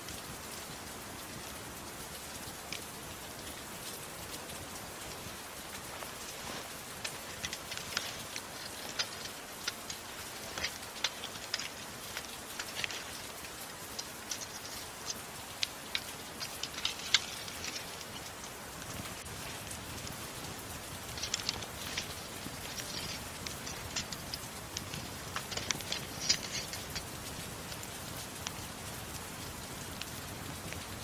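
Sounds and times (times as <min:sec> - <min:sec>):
soft rain hissing: 0:00.0 - 0:31.0
wood fire popping and crackling: 0:00.0 - 0:31.0.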